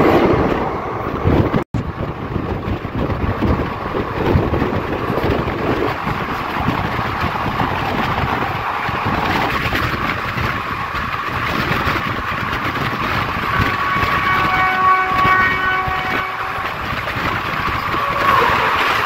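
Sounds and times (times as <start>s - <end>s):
rushing wind: 0.0s - 19.0s
train running rumble: 0.0s - 19.0s
wind buffeting microphone: 0.0s - 19.0s.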